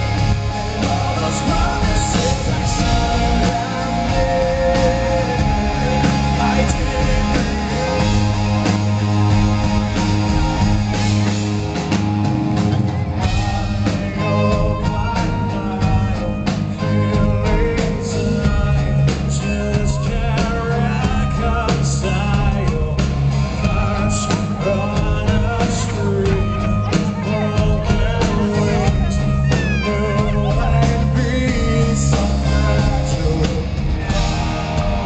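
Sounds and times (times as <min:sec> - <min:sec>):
person singing: 0:00.0 - 0:10.9, 0:13.2 - 0:35.0
bass guitar: 0:00.0 - 0:35.0
drums: 0:00.0 - 0:35.0
electric guitar: 0:00.0 - 0:35.0.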